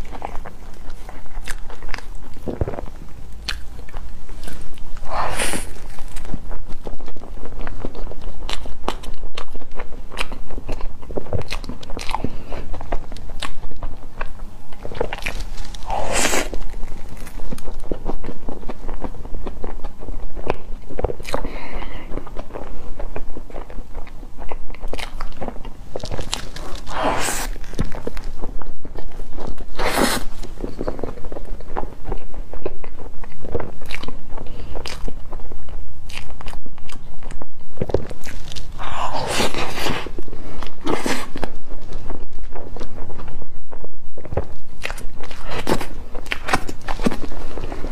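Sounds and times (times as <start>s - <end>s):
wet chewing and mouth clicks: 0.0s - 47.9s.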